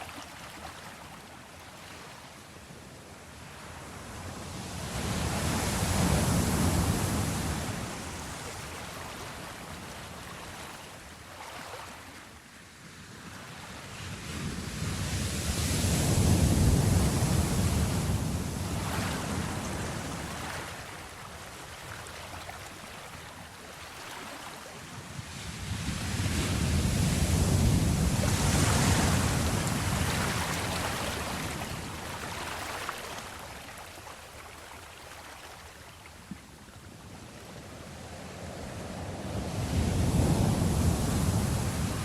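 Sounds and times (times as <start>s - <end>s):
ocean waves washing: 3.4s - 12.4s, 13.6s - 42.0s.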